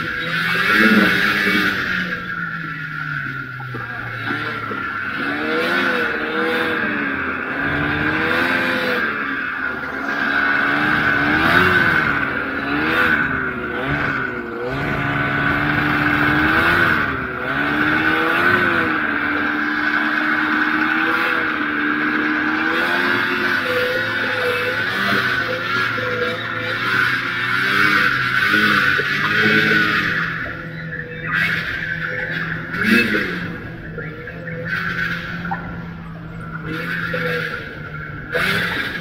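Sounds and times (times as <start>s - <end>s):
snowmobile engine revving: 0.0s - 39.0s.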